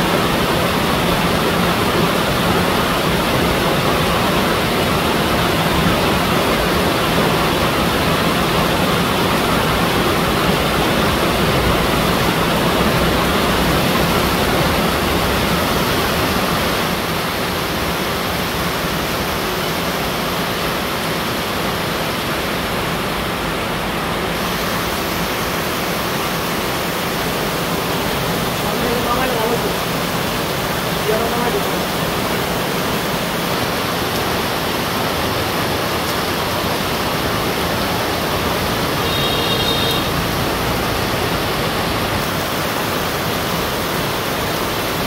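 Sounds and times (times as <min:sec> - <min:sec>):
heavy rain on trees and ground: 0:00.0 - 0:45.0.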